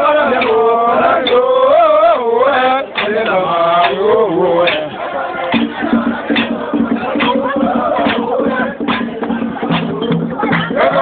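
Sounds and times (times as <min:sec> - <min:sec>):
mourners chanting: 0:00.0 - 0:11.0.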